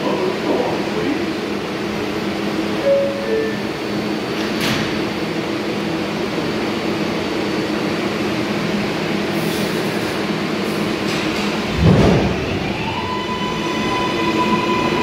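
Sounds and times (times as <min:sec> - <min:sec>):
subway train pulling out: 0:00.0 - 0:15.0.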